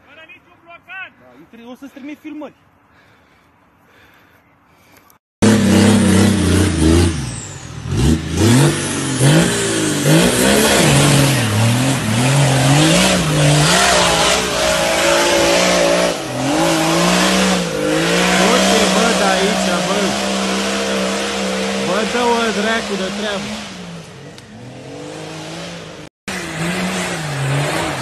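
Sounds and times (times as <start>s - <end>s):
off-road vehicle engine revving: 5.4s - 28.0s.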